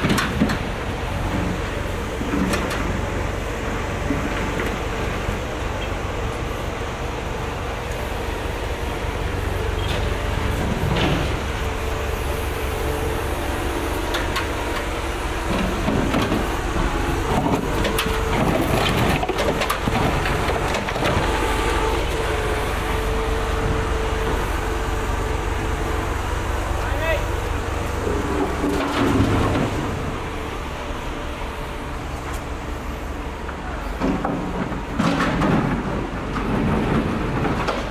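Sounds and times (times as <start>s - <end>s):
heavy vehicle engines rumbling: 0.0s - 37.9s.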